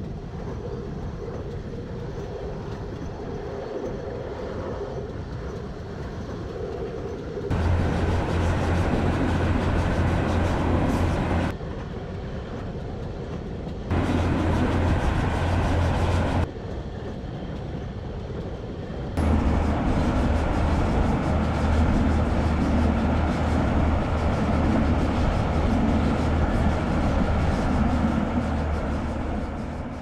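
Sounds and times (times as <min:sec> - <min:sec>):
train rumbling along track: 0:00.0 - 0:30.0.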